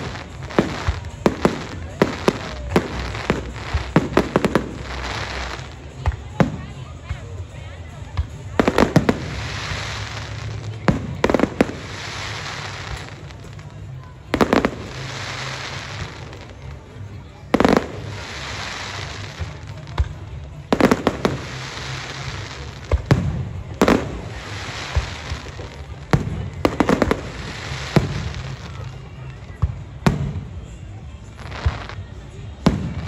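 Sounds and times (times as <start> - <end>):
crackling hiss of burning stars: 0.0 - 33.0.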